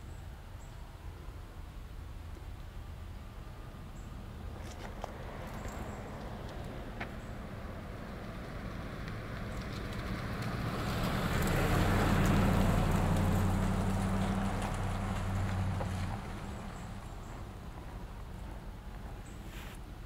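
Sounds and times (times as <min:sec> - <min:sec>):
low engine hum: 0:00.0 - 0:20.0
tyre noise on road: 0:01.9 - 0:20.0.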